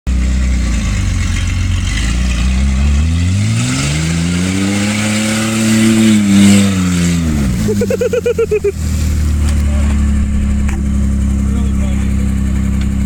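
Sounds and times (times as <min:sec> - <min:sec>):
truck engine revving: 0:00.1 - 0:13.0.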